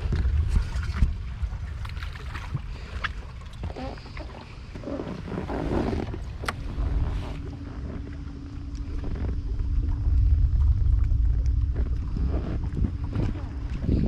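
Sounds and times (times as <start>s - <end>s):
steady low hum: 0.0s - 14.0s
wind buffeting microphone: 0.0s - 14.0s.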